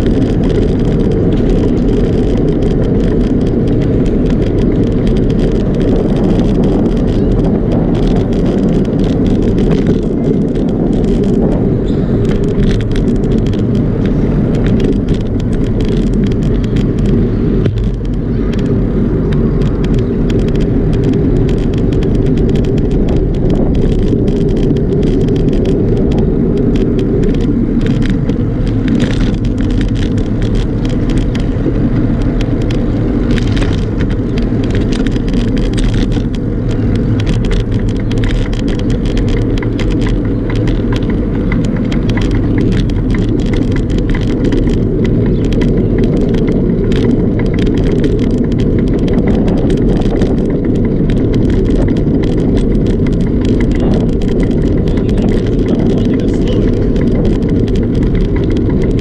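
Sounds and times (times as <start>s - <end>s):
bicycle clicks and rattles: 0.0s - 59.0s
tyre and road noise: 0.0s - 59.0s
wind rumble on microphone: 0.0s - 59.0s.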